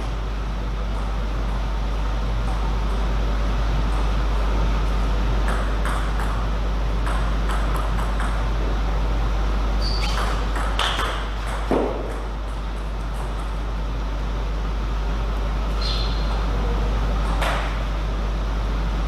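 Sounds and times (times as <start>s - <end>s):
steady hall hum: 0.0s - 19.0s.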